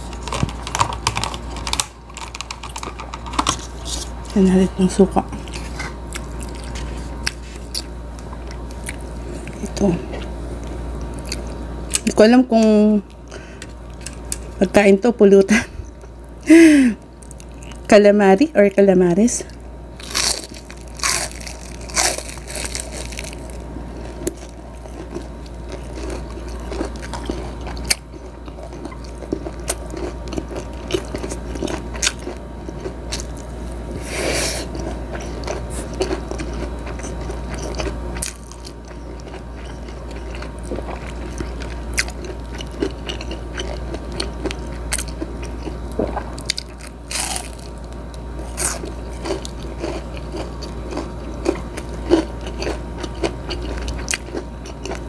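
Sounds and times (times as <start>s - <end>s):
low steady hum: 0.0s - 55.0s
crunching fried food: 5.4s - 14.6s, 17.0s - 17.9s, 19.4s - 55.0s.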